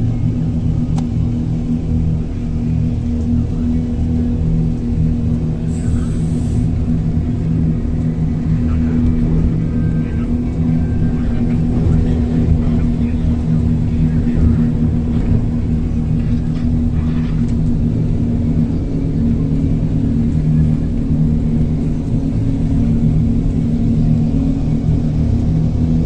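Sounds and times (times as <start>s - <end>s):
speedboat engines droning: 0.0s - 26.0s.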